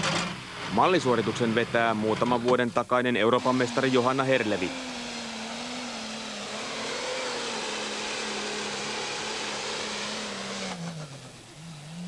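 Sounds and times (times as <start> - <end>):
diesel engine running flat out: 0.0 - 12.0.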